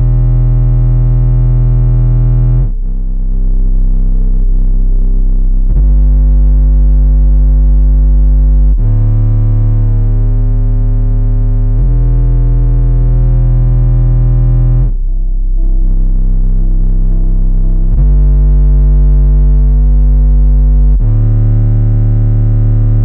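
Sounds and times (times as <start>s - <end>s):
bass-heavy electronic music: 0.0s - 23.0s.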